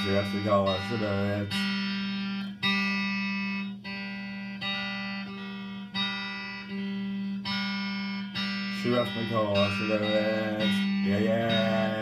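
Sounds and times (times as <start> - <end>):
electric guitar strumming chords: 0.0 - 12.0.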